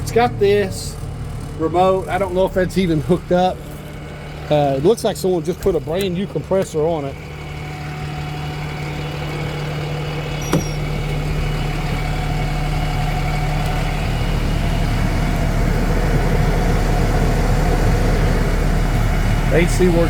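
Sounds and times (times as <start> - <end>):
air-conditioning blower rushing: 0.0 - 20.0
diesel truck engine idling: 0.0 - 20.0.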